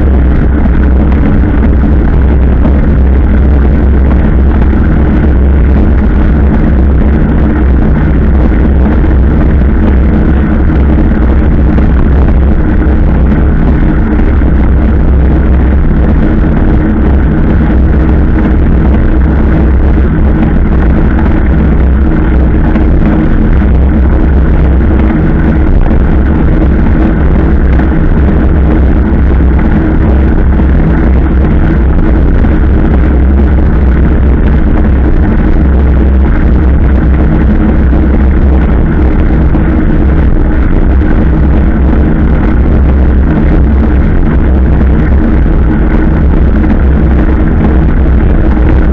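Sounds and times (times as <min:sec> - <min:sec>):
vehicle engine running: 0:00.0 - 0:48.9
wind rumble on microphone: 0:00.0 - 0:48.9.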